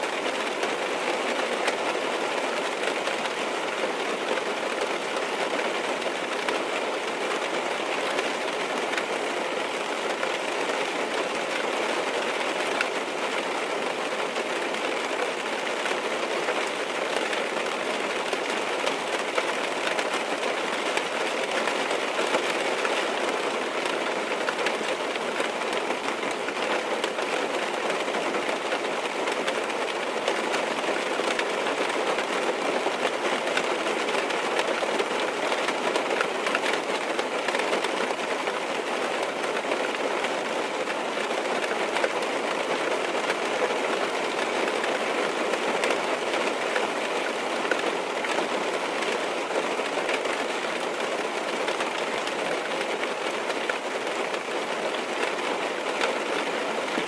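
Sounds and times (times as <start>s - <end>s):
rain on car roof: 0.0s - 57.0s.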